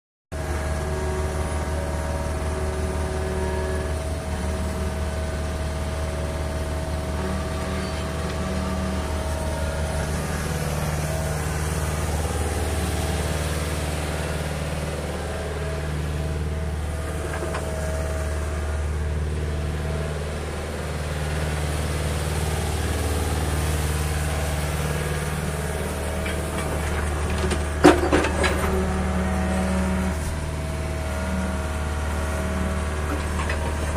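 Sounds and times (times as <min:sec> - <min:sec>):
excavator diesel engine running: 0:00.4 - 0:33.9.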